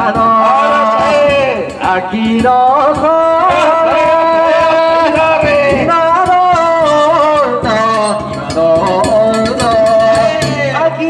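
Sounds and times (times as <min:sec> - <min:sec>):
man singing through loudspeakers: 0:00.0 - 0:11.0.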